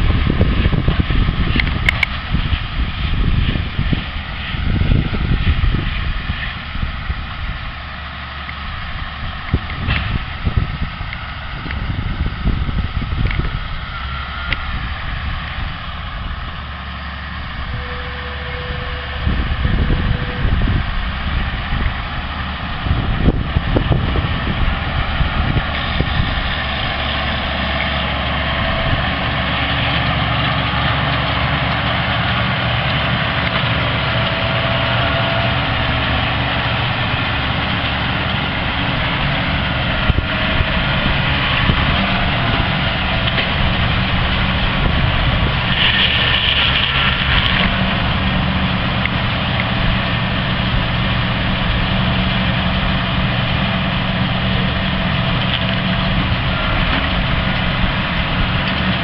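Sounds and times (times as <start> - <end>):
baling machinery working: 0.0 - 59.0
tractor engine running: 0.0 - 59.0.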